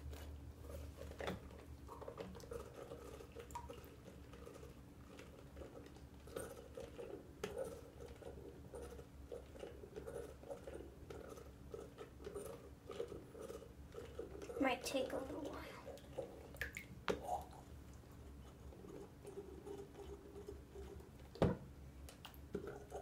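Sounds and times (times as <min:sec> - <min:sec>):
plastic water pump squeezes: 0:00.0 - 0:23.0.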